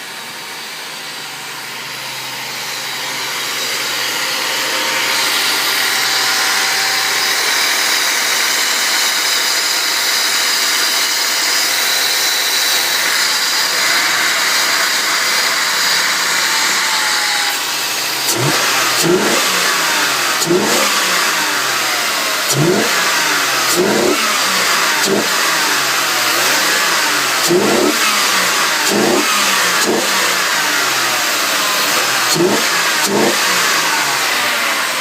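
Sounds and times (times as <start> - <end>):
car engine running: 0.0 - 35.0
engine revving: 0.0 - 35.0.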